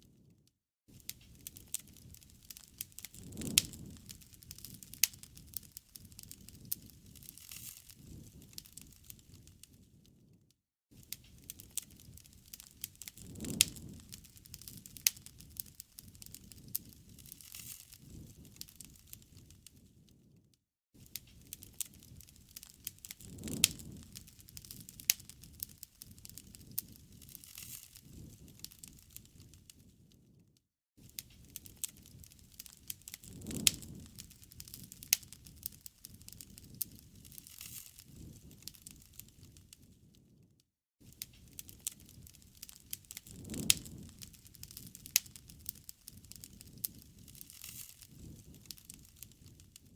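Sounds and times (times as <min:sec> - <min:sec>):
sharp pops and snaps: 0:00.0 - 0:49.9
wood fire crackling: 0:00.1 - 0:20.4, 0:21.0 - 0:49.9
soft rush of flame: 0:00.9 - 0:10.3, 0:10.9 - 0:20.3, 0:21.0 - 0:30.4, 0:31.0 - 0:40.0, 0:41.0 - 0:49.9.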